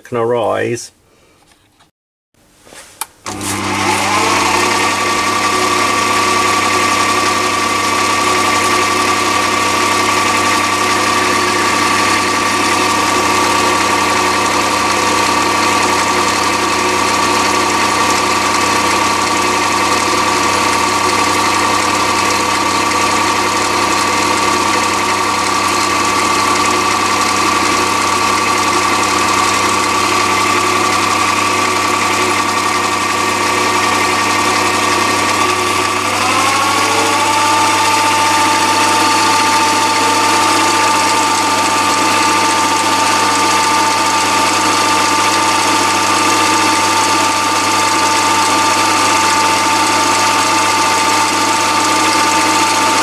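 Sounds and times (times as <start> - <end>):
lathe motor whining: 3.2 - 53.0.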